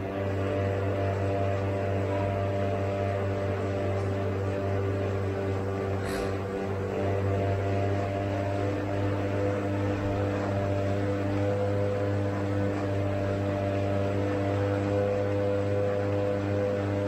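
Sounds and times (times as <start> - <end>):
bike trainer droning hum: 0.0 - 17.0.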